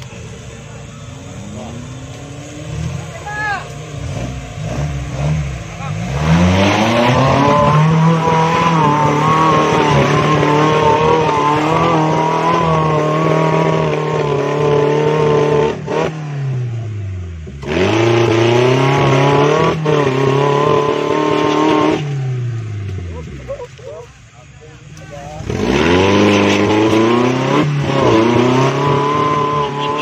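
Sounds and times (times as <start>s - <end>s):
buggy engine revving high: 0.0s - 23.8s, 24.9s - 30.0s.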